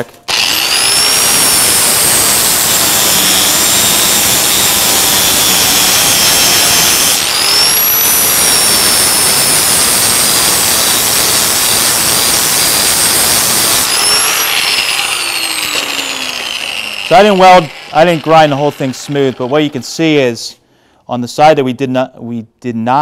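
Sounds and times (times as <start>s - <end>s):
angle grinder motor whine: 0.0s - 20.2s.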